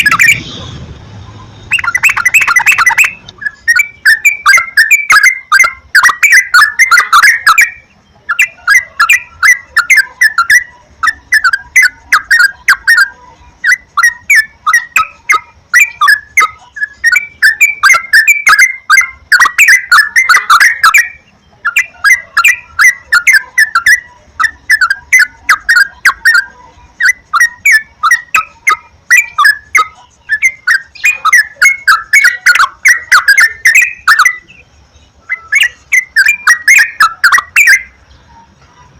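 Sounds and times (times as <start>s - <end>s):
bulbuls singing: 0.0s - 38.9s.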